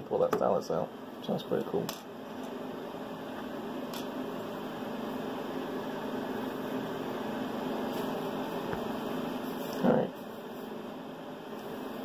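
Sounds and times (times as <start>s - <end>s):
steady low hum with hiss: 0.0s - 12.0s.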